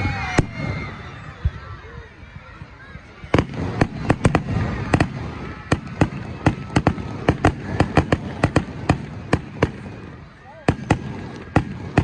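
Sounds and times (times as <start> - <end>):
fireworks cracks and bangs: 0.0 - 1.6, 2.8 - 12.0
fireworks crackle: 2.3 - 12.0.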